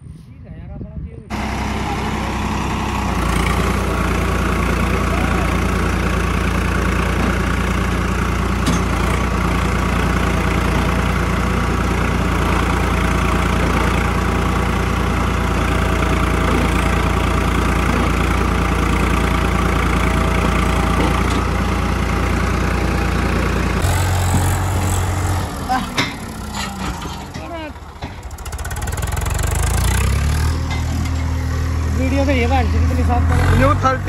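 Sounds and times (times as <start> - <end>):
tractor diesel engine running: 1.3 - 34.0.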